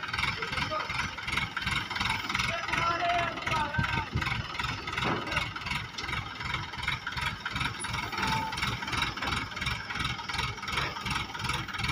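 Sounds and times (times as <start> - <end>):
excavator engine throbbing: 0.0 - 11.9.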